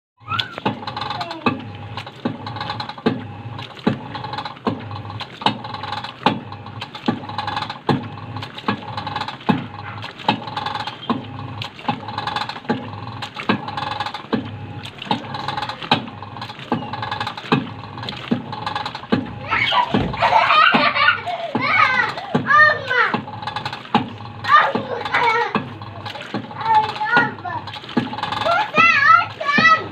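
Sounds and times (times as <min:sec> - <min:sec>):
rhythmic gearbox clicking: 0:00.2 - 0:29.9
washing machine humming on spin: 0:00.2 - 0:29.9.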